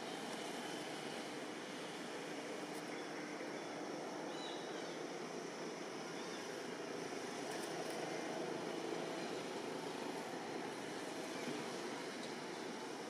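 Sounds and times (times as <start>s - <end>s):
ambient background noise: 0.0s - 13.0s.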